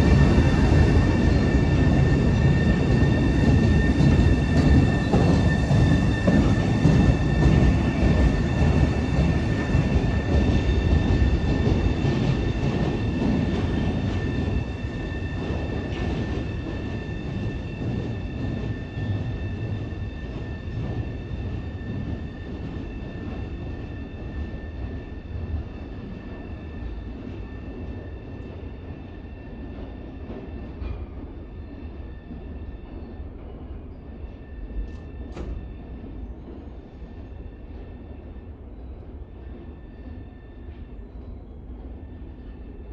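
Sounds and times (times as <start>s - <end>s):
subway train rumble: 0.0s - 42.9s.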